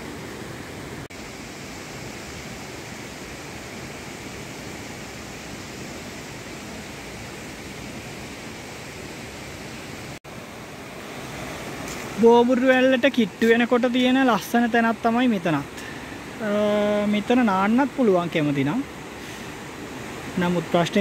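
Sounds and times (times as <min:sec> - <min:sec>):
mountain stream flowing: 0:00.0 - 0:21.0.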